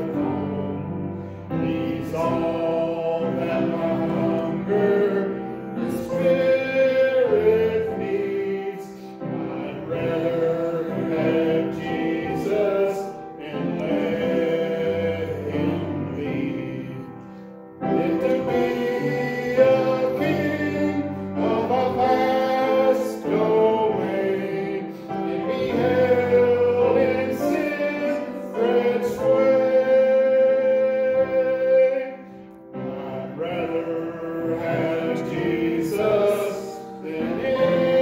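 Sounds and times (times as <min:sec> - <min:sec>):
group singing a hymn: 0:00.0 - 0:38.0.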